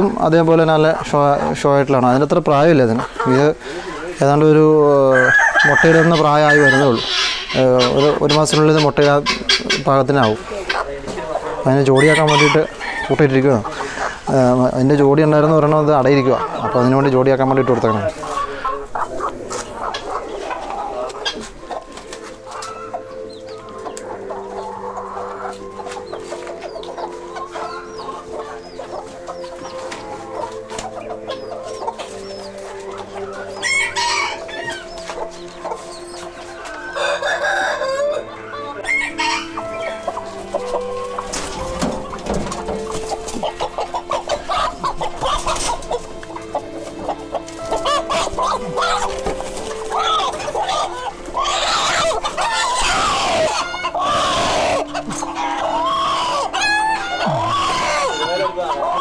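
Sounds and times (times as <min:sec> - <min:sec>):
chickens clucking: 0:00.0 - 0:59.0
roosters crowing: 0:00.0 - 0:59.0.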